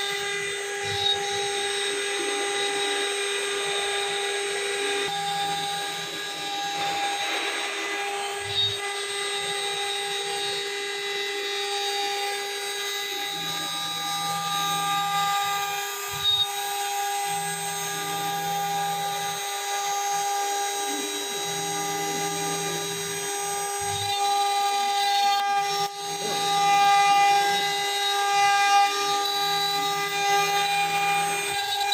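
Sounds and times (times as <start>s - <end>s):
axis motors humming: 0.0s - 31.9s
router spindle whine: 0.0s - 31.9s.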